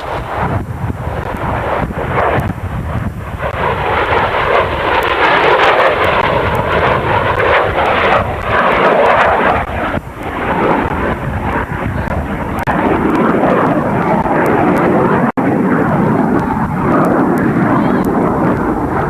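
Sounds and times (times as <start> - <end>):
jet aircraft roaring past: 0.0 - 19.0.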